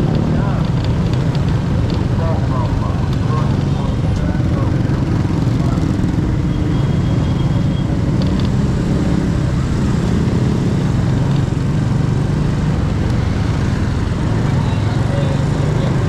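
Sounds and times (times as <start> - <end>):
motorcycle engine rumble: 0.0 - 16.0
road noise: 0.0 - 16.0.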